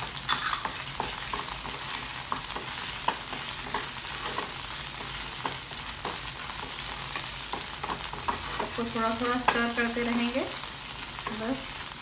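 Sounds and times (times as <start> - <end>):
food sizzling in hot oil: 0.0 - 12.0
wooden spatula scraping and tapping: 0.2 - 10.0.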